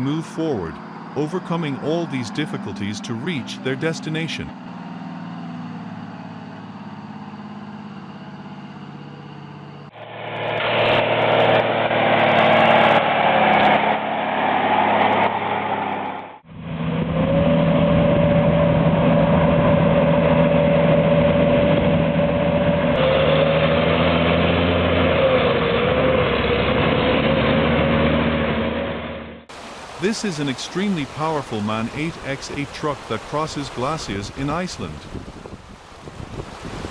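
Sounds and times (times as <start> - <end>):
high engine whine: 0.0 - 35.3
heavy truck engines labouring: 0.0 - 36.9.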